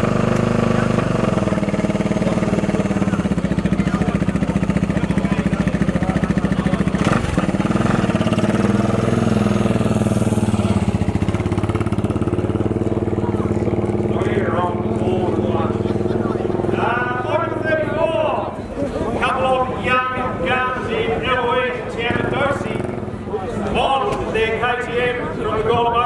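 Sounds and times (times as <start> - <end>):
motorcycle engine idling: 0.0 - 24.4.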